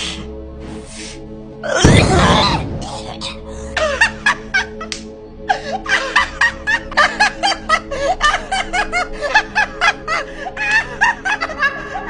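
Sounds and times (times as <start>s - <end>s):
background music chord: 0.0s - 12.0s
person laughing: 1.8s - 12.0s.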